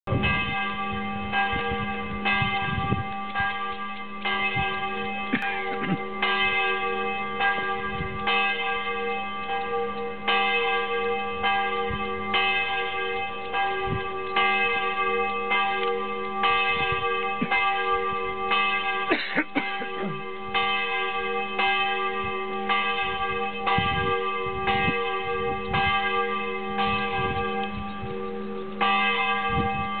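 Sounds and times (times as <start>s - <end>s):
church bell ringing: 0.1s - 30.0s.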